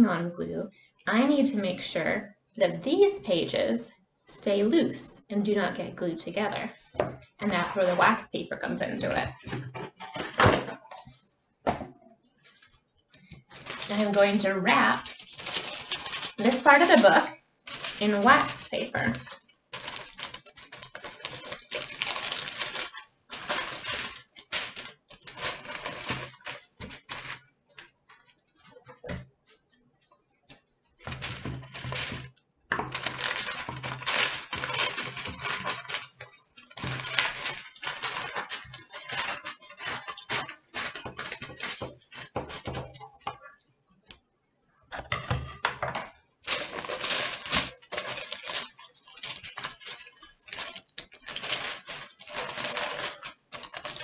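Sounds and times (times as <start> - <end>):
wax paper crinkling: 6.5 - 11.2, 12.4 - 43.5, 46.4 - 54.0.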